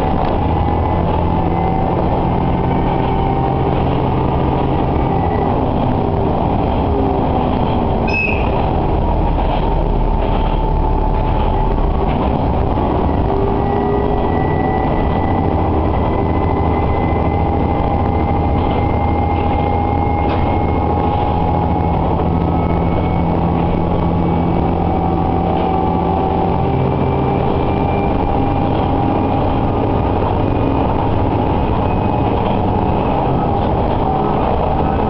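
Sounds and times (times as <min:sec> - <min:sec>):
diesel engine drone: 0:00.0 - 0:35.0
train wheels rolling on rails: 0:00.0 - 0:35.0.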